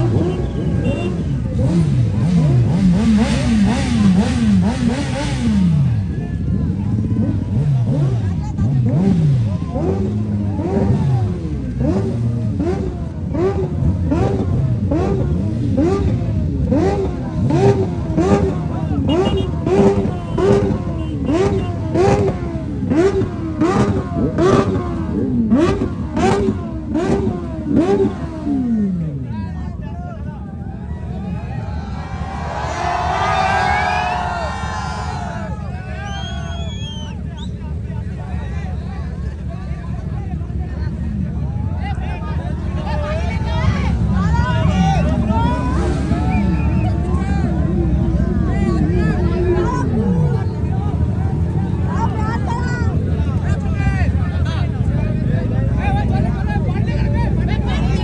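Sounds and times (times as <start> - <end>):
motorcycle engine revving: 0.0 - 29.5, 36.4 - 58.0.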